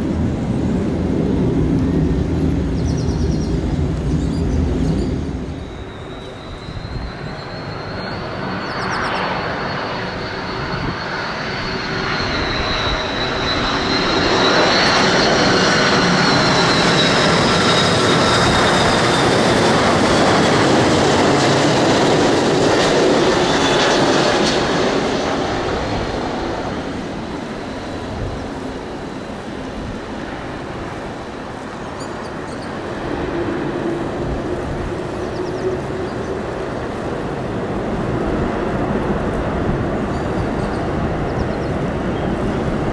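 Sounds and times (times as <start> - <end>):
aircraft engines passing: 0.0 - 42.9.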